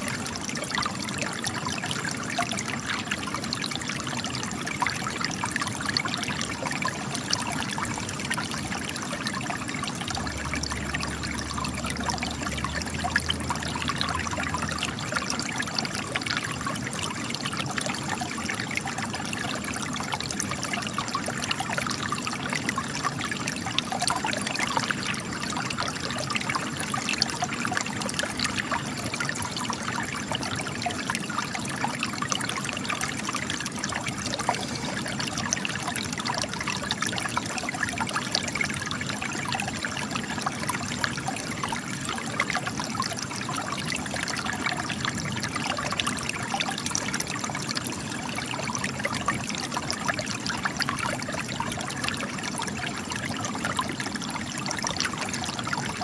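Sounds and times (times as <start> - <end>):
water trickling and splashing: 0.0 - 56.0.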